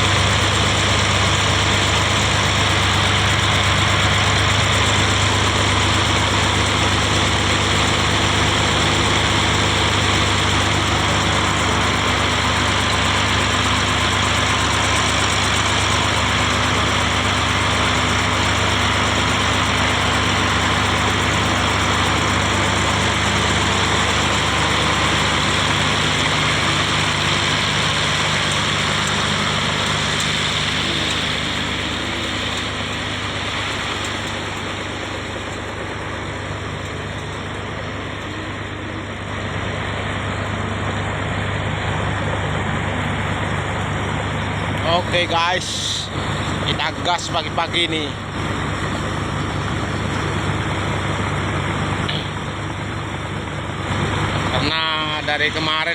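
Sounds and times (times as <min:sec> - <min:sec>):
diesel pump engine humming: 0:00.0 - 0:55.9.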